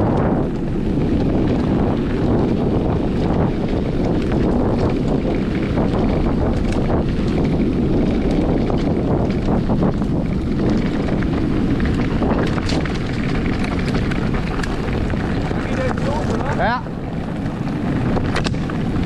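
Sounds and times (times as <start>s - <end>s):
small clicks and rattles: 0.0s - 19.0s
wind buffeting microphone: 0.0s - 19.0s.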